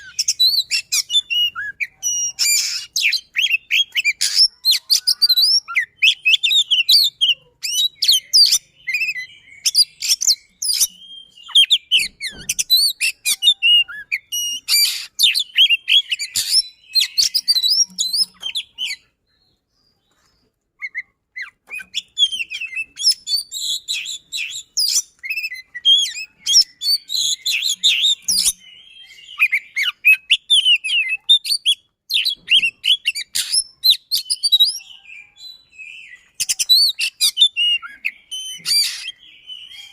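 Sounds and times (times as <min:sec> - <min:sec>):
magpie-robin singing trills: 0:00.0 - 0:39.9.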